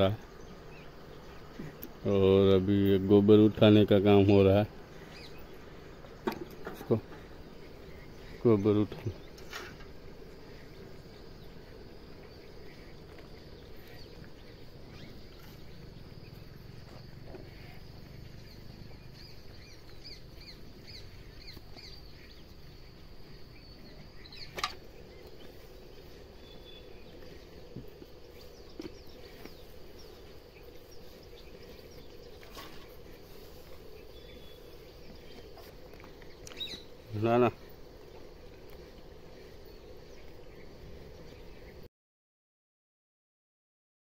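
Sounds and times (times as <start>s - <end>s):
birds chirping: 0.0s - 41.9s
high insect buzz: 0.0s - 41.9s.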